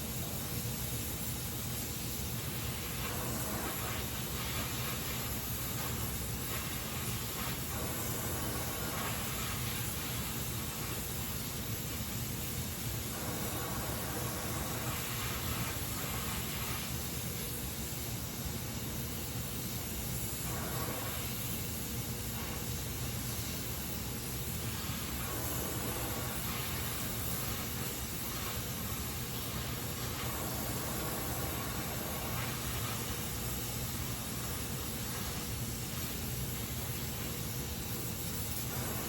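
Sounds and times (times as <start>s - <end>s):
welding torch flame hissing: 0.0s - 39.0s.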